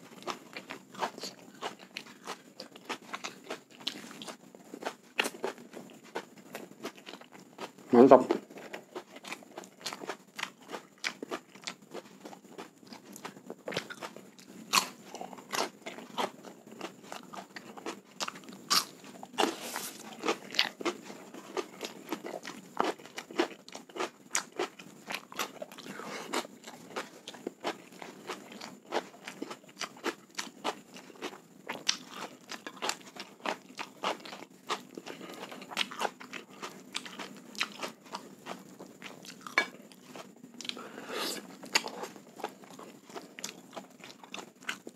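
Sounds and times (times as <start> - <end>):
chewing and crunching: 0.0 - 44.9.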